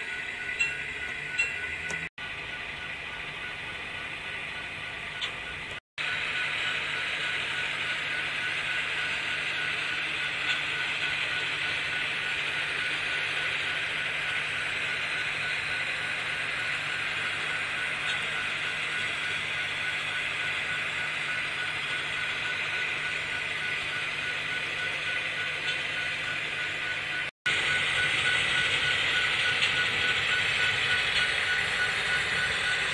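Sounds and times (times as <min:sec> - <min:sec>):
model trains whirring on track: 0:00.0 - 0:32.9
thin steady whine: 0:00.0 - 0:32.9.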